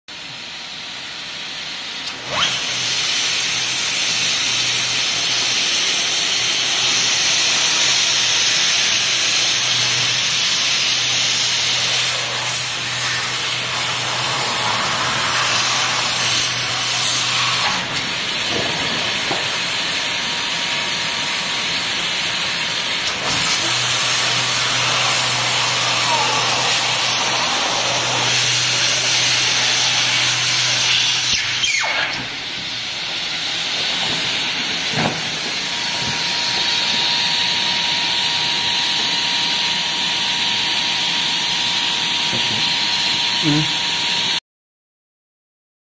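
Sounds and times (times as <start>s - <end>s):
hot air blower hissing: 0.2s - 44.4s.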